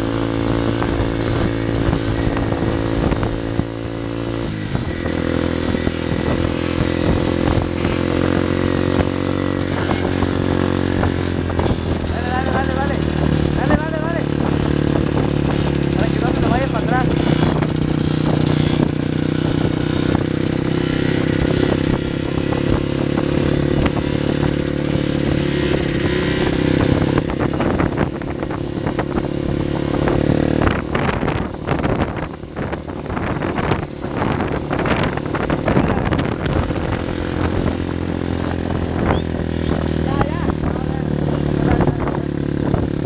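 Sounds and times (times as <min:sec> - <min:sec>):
quad engine running: 0:00.0 - 0:43.0.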